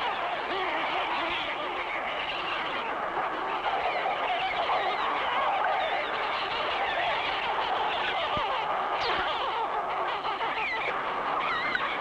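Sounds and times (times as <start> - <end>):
seabirds wailing calls: 0.0 - 12.0.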